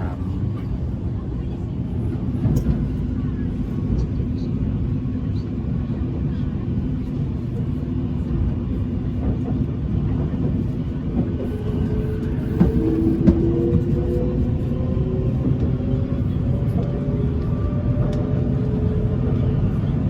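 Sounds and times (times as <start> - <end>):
train car rumble with motor whine: 0.0 - 20.0.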